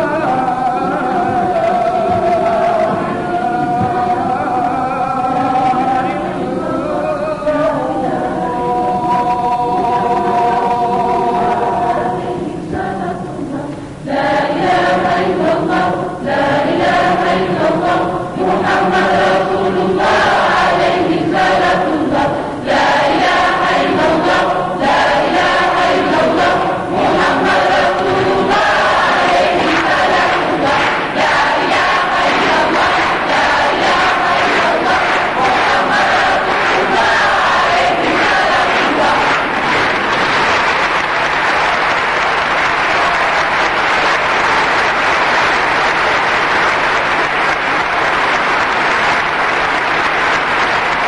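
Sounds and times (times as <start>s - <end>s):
children's choir singing: 0.0s - 51.0s.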